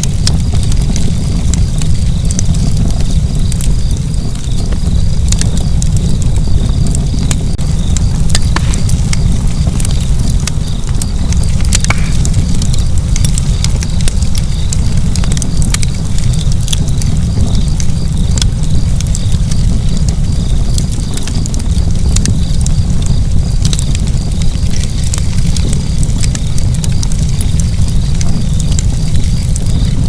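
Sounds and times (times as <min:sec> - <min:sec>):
fire crackling and popping: 0:00.0 - 0:30.0
low rumble: 0:00.0 - 0:30.0.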